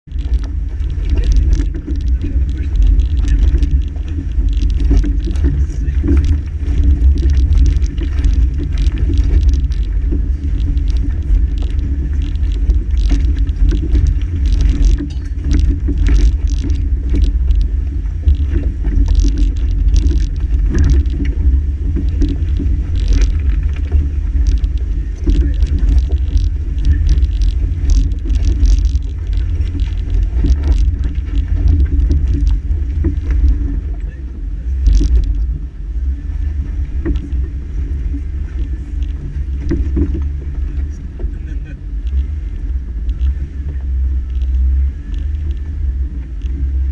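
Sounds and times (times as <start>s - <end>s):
stones crunching under tyres: 0.0s - 46.9s
vehicle engine rumbling: 0.0s - 46.9s.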